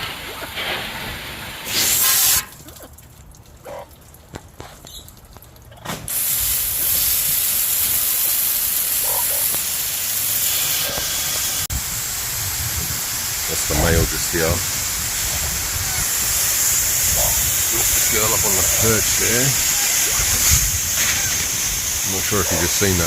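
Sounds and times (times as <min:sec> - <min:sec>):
garden hose spraying water: 0:00.0 - 0:23.0.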